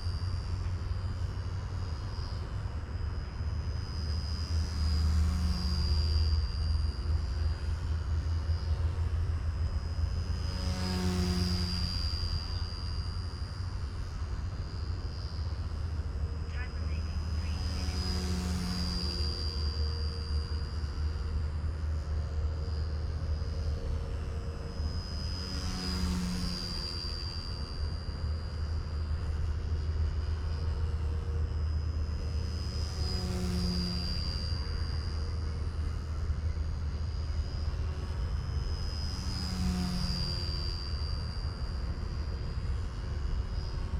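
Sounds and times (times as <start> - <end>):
low buzzing tone: 0.0 - 43.9
rc helicopter whine: 0.0 - 43.9.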